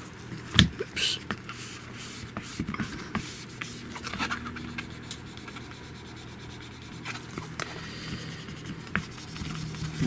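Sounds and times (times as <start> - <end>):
scratching on plastic screen protector: 1.5 - 10.0.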